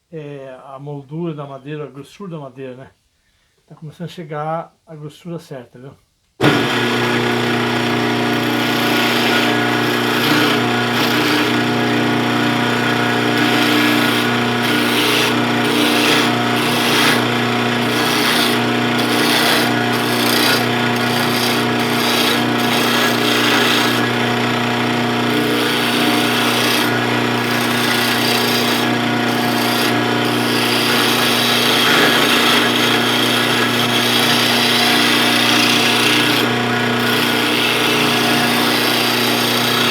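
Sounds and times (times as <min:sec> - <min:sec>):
turning tool scraping wood: 0:06.4 - 0:39.9
wood lathe motor hum: 0:06.4 - 0:39.9.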